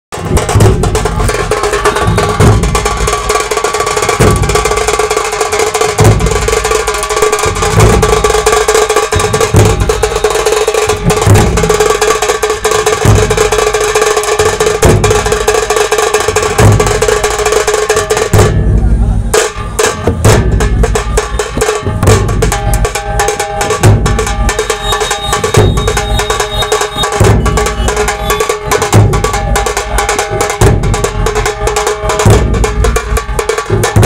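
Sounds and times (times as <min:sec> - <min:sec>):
fast stick strokes on kettle drum: 0:00.1 - 0:18.6, 0:19.3 - 0:34.0
deep bass drum beat: 0:00.1 - 0:34.0.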